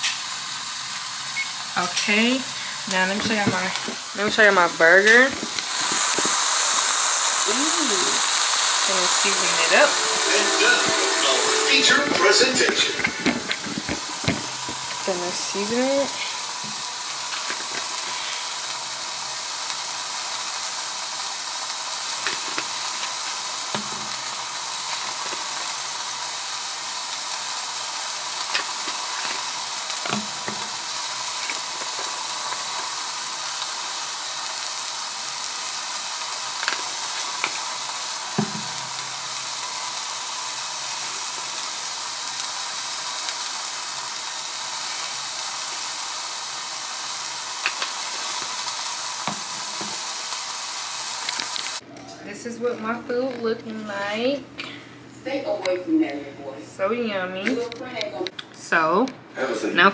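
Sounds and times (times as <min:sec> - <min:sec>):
burger patty sizzling: 0:00.0 - 0:54.4.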